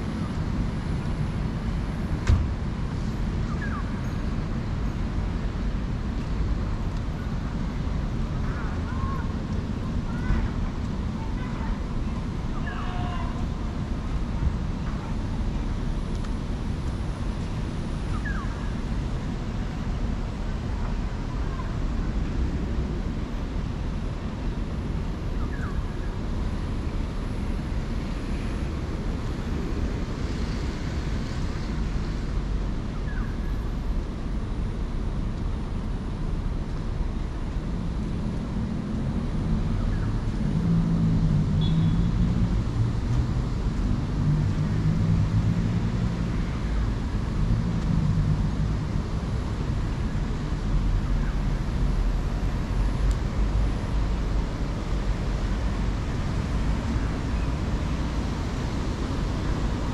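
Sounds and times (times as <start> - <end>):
large vehicle engine drone: 0.0 - 59.9
road traffic rumble: 0.0 - 59.9.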